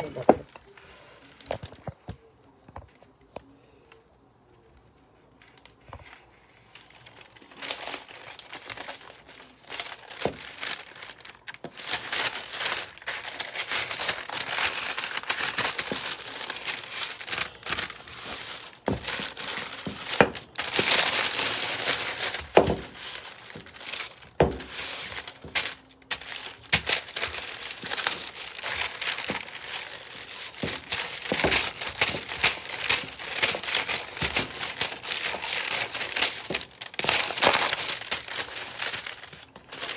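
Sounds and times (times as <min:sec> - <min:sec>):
sheet crinkling and rustling: 0:05.2 - 0:39.9.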